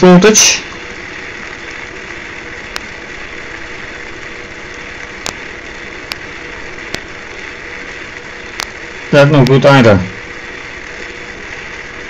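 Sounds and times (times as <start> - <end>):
small electric motor humming: 0.0 - 12.0.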